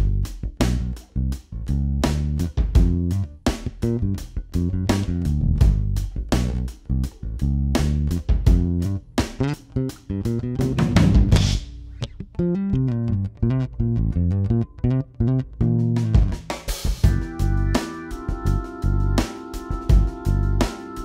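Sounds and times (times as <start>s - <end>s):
electric bass guitar improvising: 0.0s - 21.0s.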